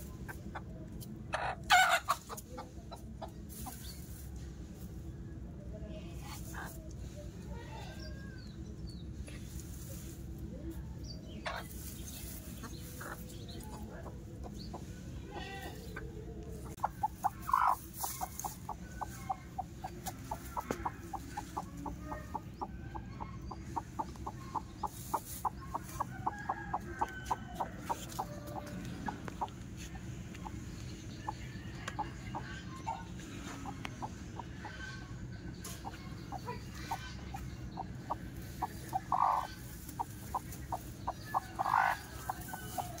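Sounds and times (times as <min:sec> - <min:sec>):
hen clucking: 0:00.0 - 0:04.1, 0:11.4 - 0:43.0
steady low hum: 0:00.0 - 0:43.0.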